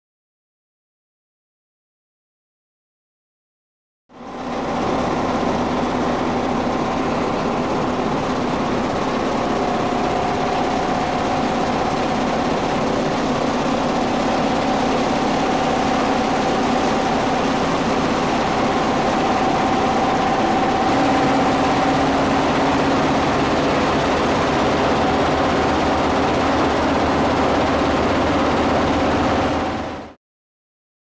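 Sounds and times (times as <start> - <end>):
constant machine hum: 4.1 - 30.2
vibrating screen mechanical din: 4.2 - 30.2.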